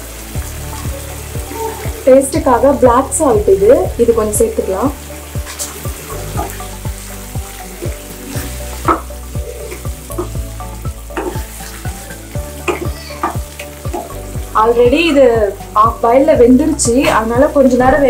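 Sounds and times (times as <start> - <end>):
curry sizzling: 0.0 - 18.0.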